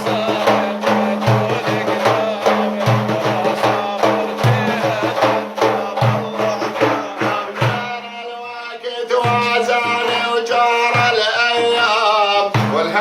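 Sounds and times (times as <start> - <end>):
drum beating steady rhythm: 0.0 - 13.0.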